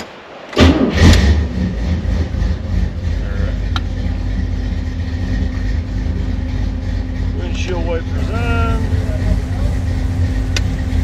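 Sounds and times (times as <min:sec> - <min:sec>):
car engine starting and idling: 0:00.5 - 0:11.0.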